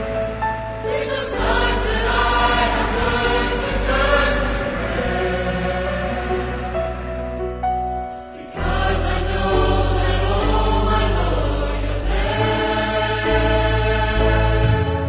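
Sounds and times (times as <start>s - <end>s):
steady low tone: 0.0s - 14.7s
choir singing held chords: 0.0s - 15.0s.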